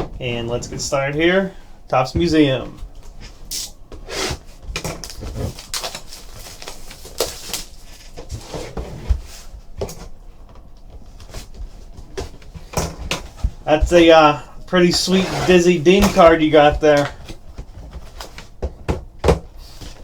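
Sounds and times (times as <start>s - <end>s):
cards and wrappers rustling: 2.4s - 20.0s.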